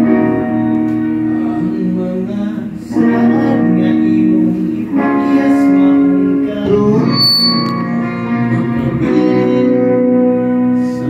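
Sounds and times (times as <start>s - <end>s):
bass guitar: 0.0s - 11.0s
electric guitar chords: 0.0s - 11.0s.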